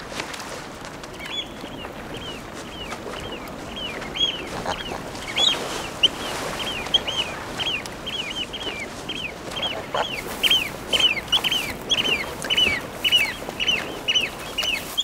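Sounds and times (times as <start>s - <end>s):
otters chirping: 1.3s - 15.0s.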